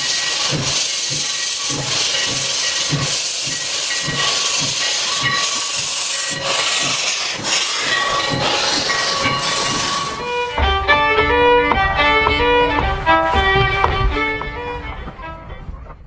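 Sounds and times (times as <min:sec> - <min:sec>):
steam locomotive hiss and beat: 0:00.0 - 0:15.4.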